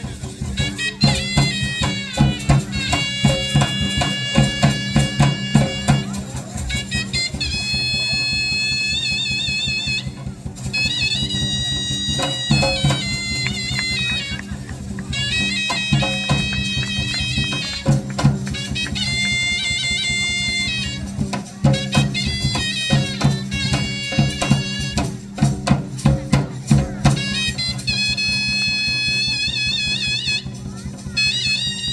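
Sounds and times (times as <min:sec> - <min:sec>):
drum strokes: 0:00.0 - 0:31.9
reedy wind instrument melody: 0:00.0 - 0:31.9.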